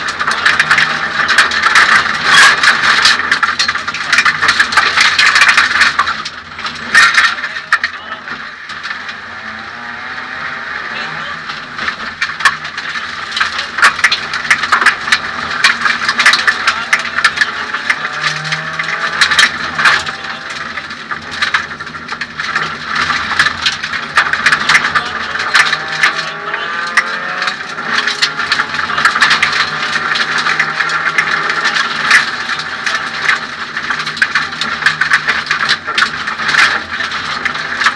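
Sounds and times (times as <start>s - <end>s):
interior rattling and clicking: 0.0s - 9.2s, 11.0s - 37.9s
rally car engine revving: 0.0s - 37.9s.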